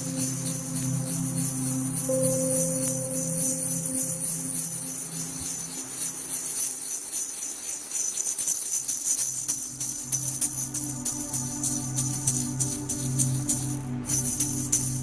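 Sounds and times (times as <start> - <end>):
low music drone: 0.0 - 6.7, 9.4 - 15.0
hand rattle shaking: 0.0 - 15.0.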